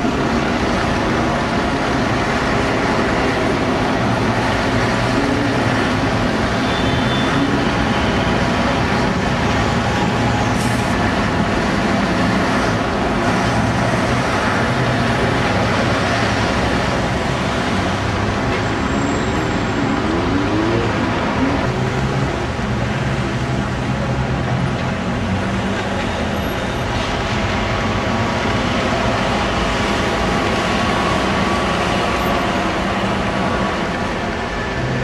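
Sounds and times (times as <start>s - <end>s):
bus diesel engine passing: 0.0s - 35.0s
city traffic: 0.0s - 35.0s.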